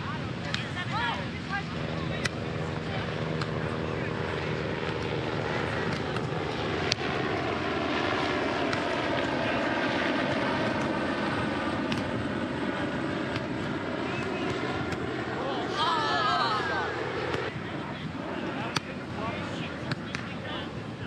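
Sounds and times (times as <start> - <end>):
propeller airplane droning: 0.0 - 21.0.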